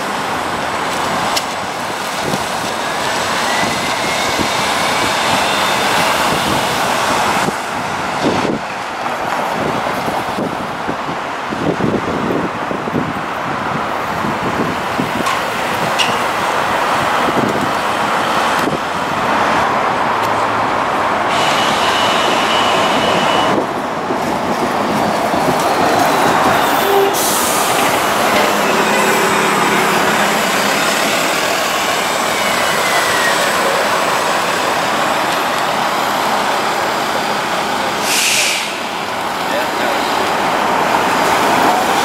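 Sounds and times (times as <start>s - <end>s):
buses moving off and pulling in: 0.0s - 42.0s
city street traffic: 0.0s - 42.0s.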